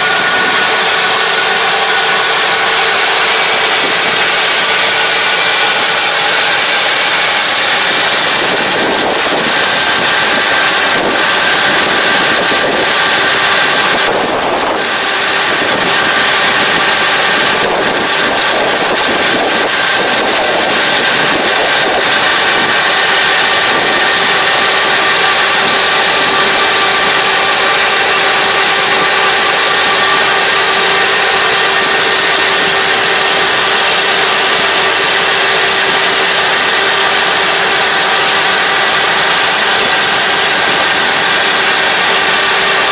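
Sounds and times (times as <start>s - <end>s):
diesel engine hum: 0.0s - 42.9s
machinery whine: 0.0s - 42.9s.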